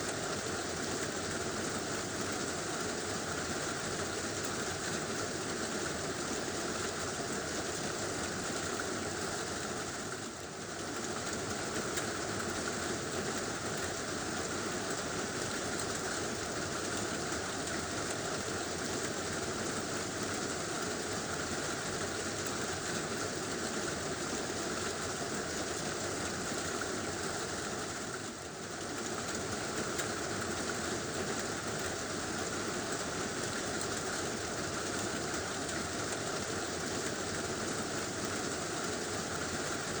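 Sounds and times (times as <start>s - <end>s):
heavy rain on a tin roof: 0.0s - 40.0s.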